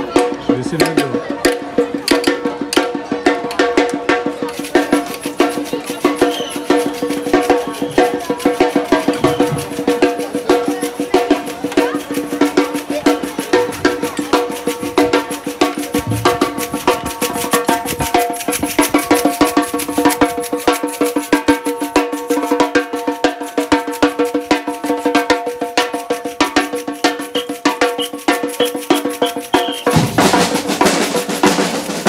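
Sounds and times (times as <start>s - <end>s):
surdo drums struck with mallets: 0.0s - 32.0s.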